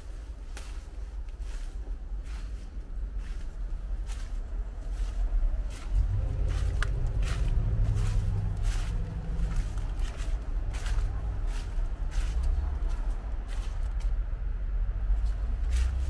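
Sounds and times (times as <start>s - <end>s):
footsteps walking: 0.0s - 14.3s, 15.1s - 16.0s
low rumble: 0.0s - 16.0s.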